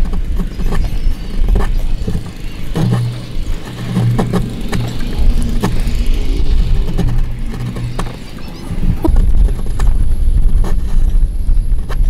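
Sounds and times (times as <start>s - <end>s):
loud steady low rumble: 0.0s - 12.0s.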